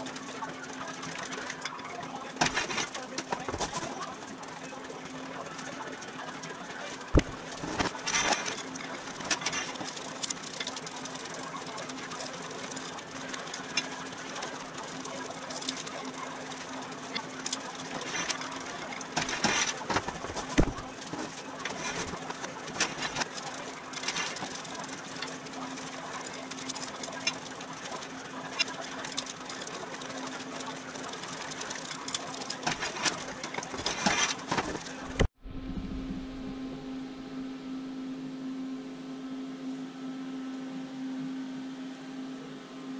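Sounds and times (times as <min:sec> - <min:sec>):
steady low hum: 0:00.0 - 0:29.3, 0:32.0 - 0:42.9.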